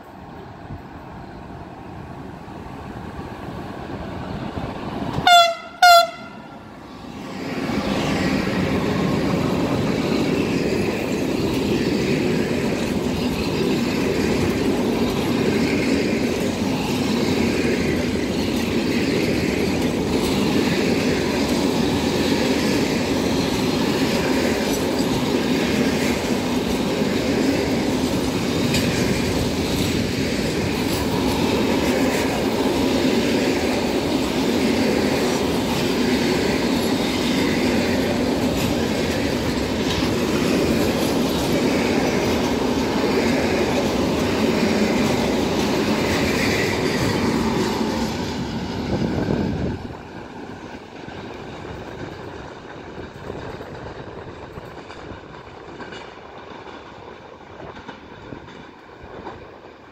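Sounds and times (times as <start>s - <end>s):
train wheels rumbling: 0.0s - 59.9s
wheels clicking over rail joints: 7.4s - 59.9s.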